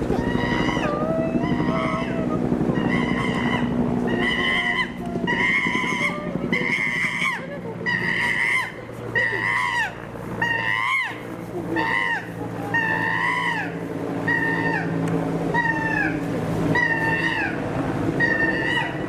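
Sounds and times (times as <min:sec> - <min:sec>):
animal high clear calls: 0:00.0 - 0:17.6, 0:18.2 - 0:19.0.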